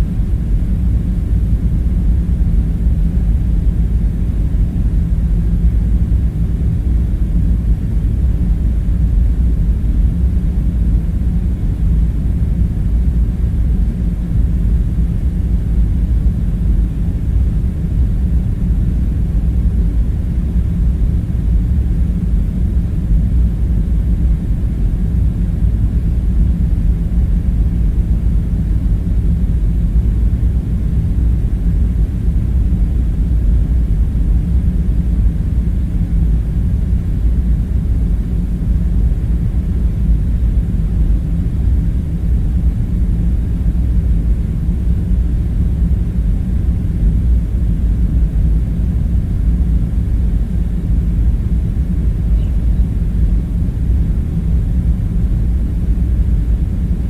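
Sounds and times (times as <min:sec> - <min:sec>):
low rumble with faint hum: 0:00.0 - 0:57.0.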